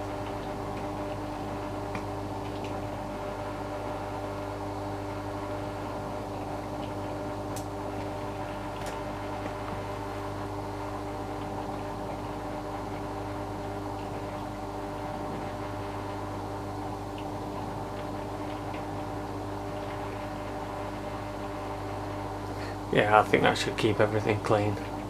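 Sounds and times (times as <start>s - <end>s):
dishwasher motor hum: 0.0s - 25.0s.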